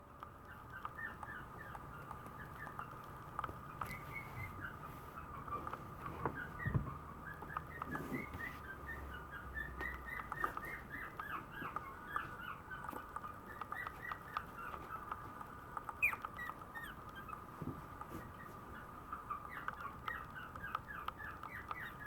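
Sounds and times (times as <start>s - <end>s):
puppy whimpering: 0.5s - 15.2s, 15.9s - 22.0s.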